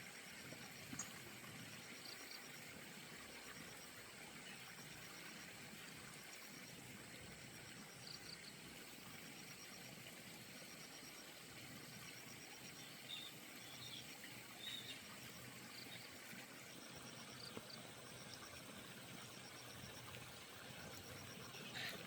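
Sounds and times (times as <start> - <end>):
insect chirping in rapid pulses: 0.0 - 22.0.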